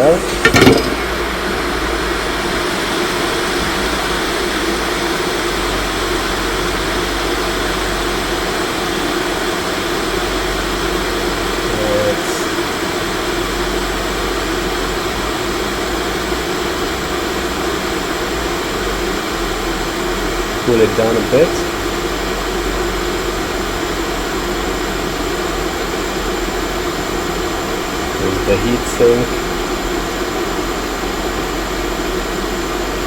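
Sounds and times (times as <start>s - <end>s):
hot air station blowing: 0.0s - 33.0s.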